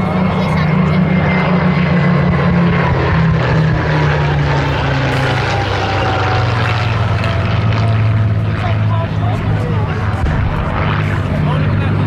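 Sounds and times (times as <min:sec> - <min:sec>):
propeller aircraft engine passing: 0:00.0 - 0:12.0.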